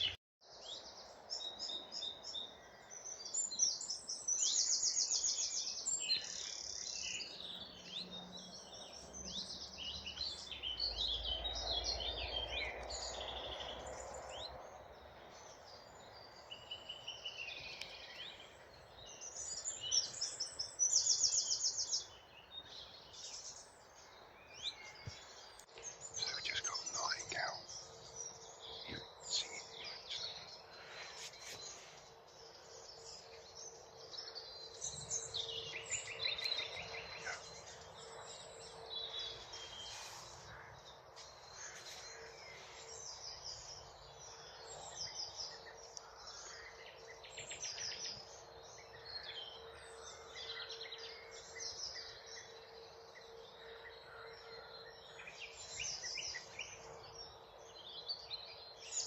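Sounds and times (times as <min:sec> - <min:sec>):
nightingale singing: 0:00.0 - 0:59.0
other birdsong: 0:00.0 - 0:59.0.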